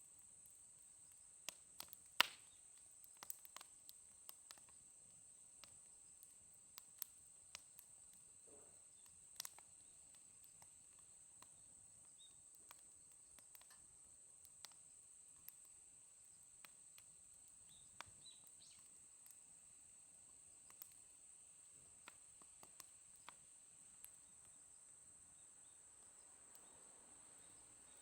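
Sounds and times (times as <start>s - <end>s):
faint high-pitched whine: 0.0s - 28.0s
wood fire crackling: 0.0s - 28.0s.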